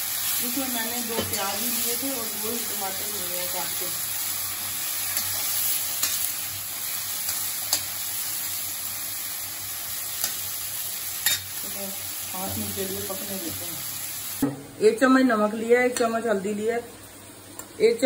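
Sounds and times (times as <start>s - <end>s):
onions and tomatoes sizzling in oil: 0.0s - 18.0s.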